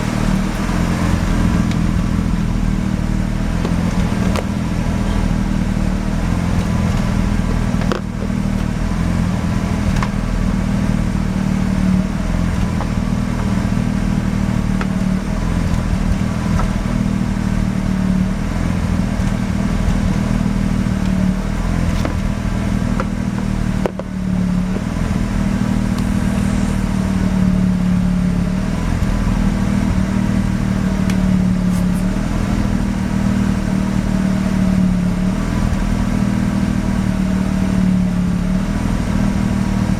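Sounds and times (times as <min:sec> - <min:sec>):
rotary engine idling roughly: 0:00.0 - 0:39.9.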